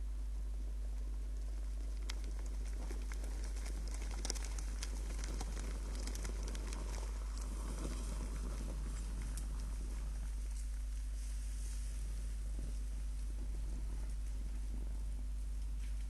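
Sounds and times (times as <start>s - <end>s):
low electrical hum: 0.0s - 16.0s
small ticks and rustles: 0.0s - 16.0s.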